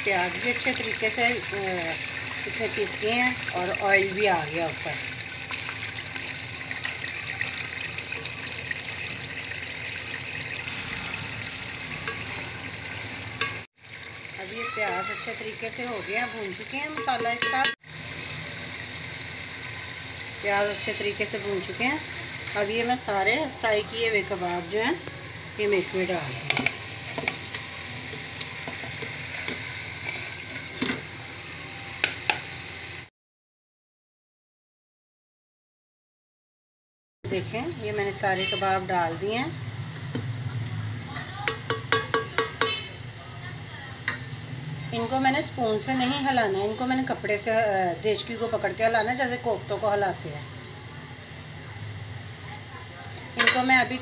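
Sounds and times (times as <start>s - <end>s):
sauce sizzling in oil: 0.0s - 33.1s, 37.4s - 40.8s, 44.0s - 50.4s, 52.2s - 54.0s.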